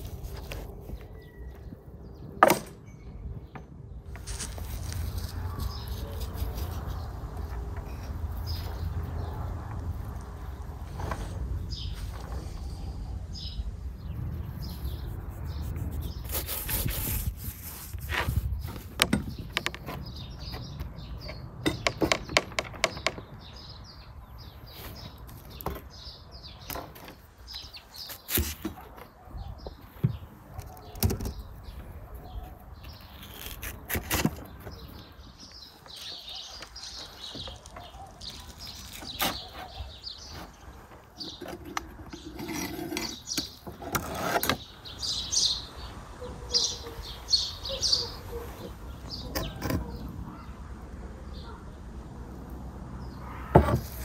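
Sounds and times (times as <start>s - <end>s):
birds chirping: 0.1s - 51.8s.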